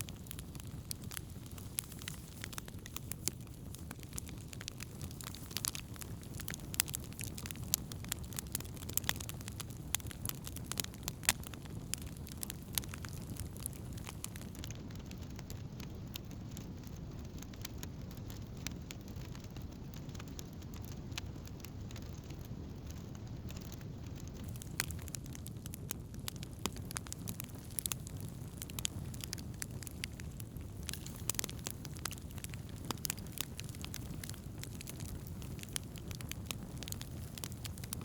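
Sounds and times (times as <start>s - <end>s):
campfire flames rushing: 0.0s - 38.0s
fire crackling and popping: 0.0s - 38.0s.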